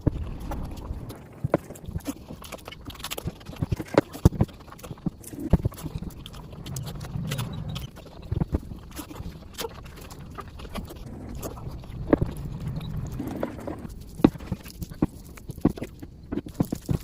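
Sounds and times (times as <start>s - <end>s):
chewing and lip smacking: 0.2s - 17.0s.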